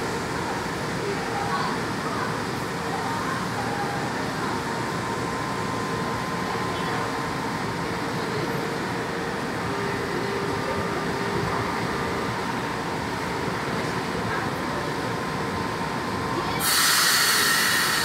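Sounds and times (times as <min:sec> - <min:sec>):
train equipment humming and hissing: 0:00.0 - 0:18.0.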